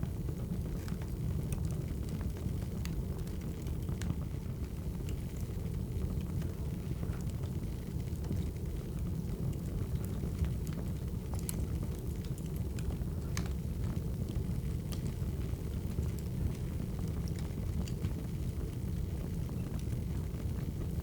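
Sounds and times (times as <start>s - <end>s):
wood fire crackling: 0.1s - 21.0s.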